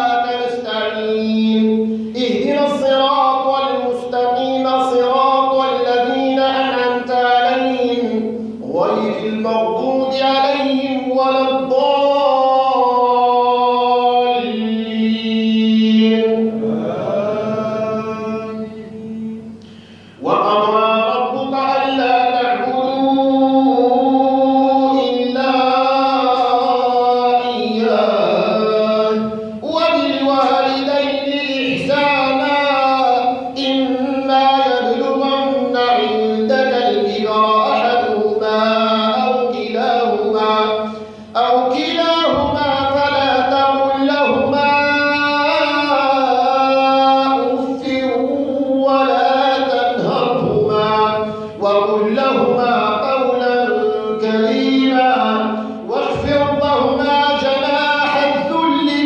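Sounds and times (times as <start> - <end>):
man chanting recitation: 0.0 - 59.0.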